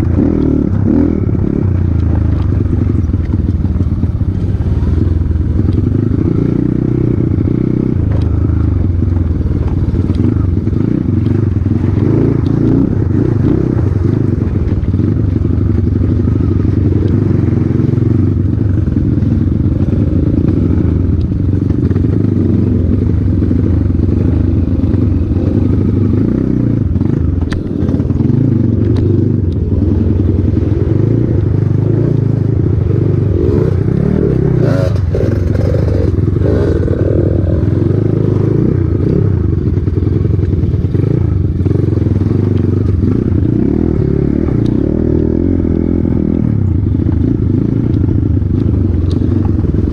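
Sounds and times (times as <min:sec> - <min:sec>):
off-road motorcycle engine running: 0:00.0 - 0:49.9.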